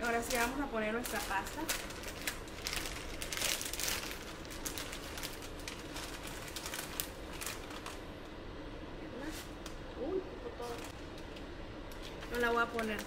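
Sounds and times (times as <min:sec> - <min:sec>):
plastic packaging crinkling: 0:00.0 - 0:08.1, 0:10.6 - 0:13.0.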